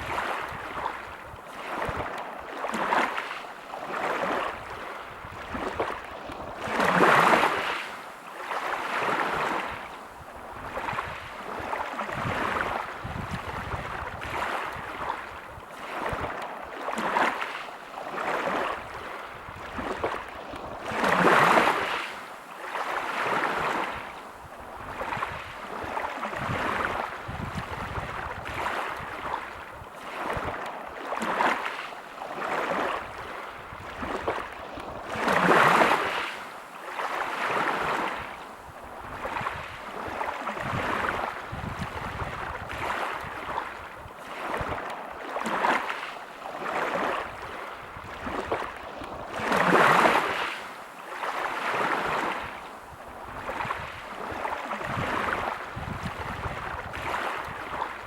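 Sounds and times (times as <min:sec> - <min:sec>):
waves breaking on pebble beach: 0:00.0 - 0:09.8, 0:10.6 - 0:24.1, 0:24.9 - 0:38.3, 0:39.1 - 0:58.0.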